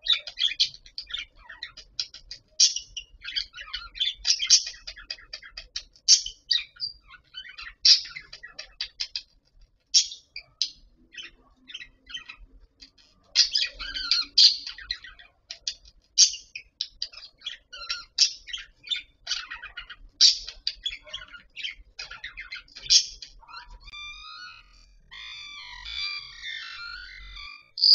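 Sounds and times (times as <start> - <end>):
budgerigars chattering: 0.0 - 27.9.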